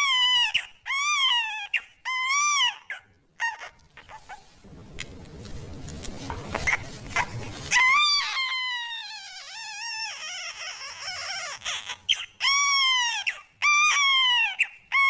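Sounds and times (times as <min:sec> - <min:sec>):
newborn baby crying: 0:00.0 - 0:04.3, 0:07.2 - 0:15.0.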